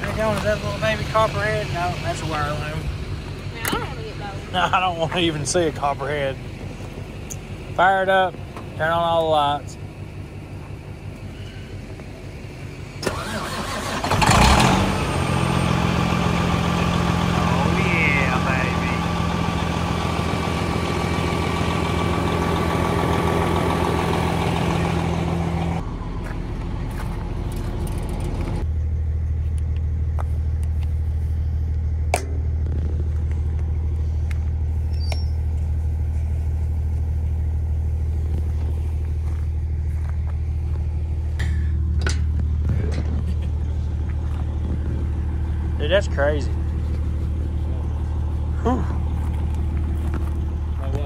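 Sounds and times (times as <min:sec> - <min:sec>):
truck engine idling: 0:00.0 - 0:51.0.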